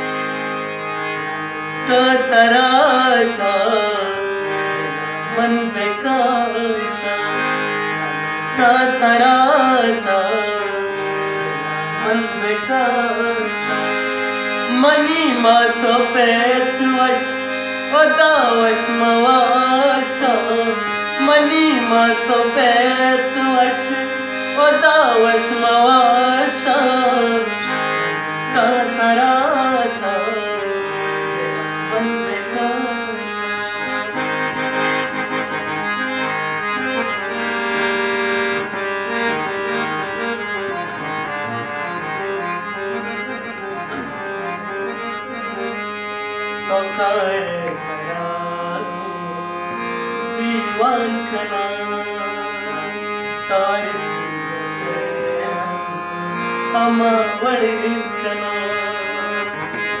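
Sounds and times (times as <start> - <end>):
harmonium playing: 0.0 - 60.0.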